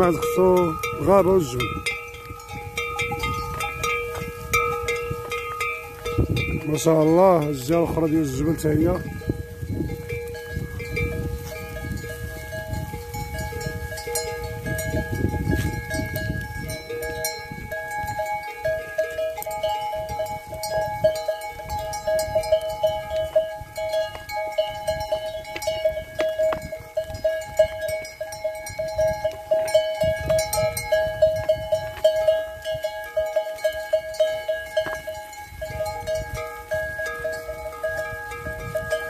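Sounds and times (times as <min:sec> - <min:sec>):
goat bells ringing: 0:00.0 - 0:39.0.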